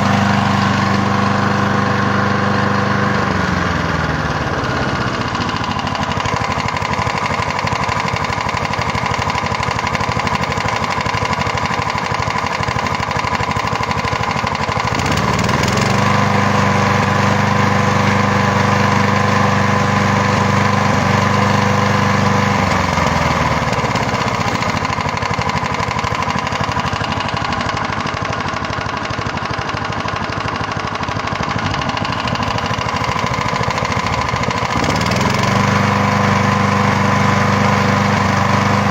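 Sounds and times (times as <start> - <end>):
lawnmower engine idling and revving: 0.0 - 38.9.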